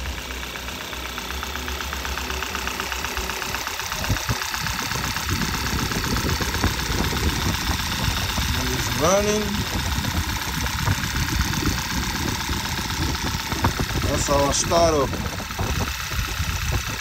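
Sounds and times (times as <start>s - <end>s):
engine idling hum: 0.0s - 17.0s
fast even engine ticking: 0.0s - 17.0s.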